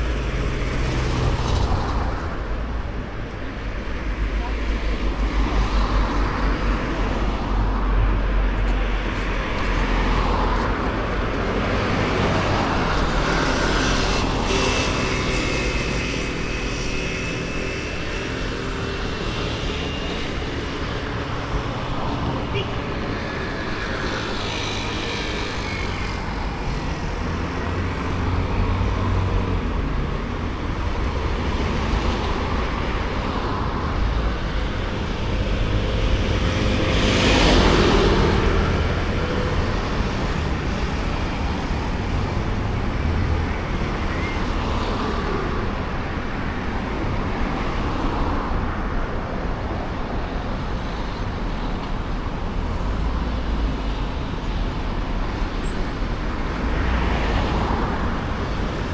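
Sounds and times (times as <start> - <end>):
road traffic: 0.0 - 58.9.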